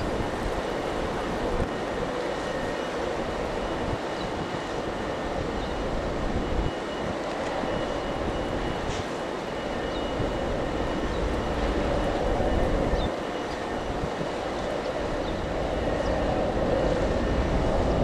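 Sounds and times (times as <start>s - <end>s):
ship engines rumbling: 0.0s - 18.0s
wind buffeting microphone: 0.0s - 18.0s.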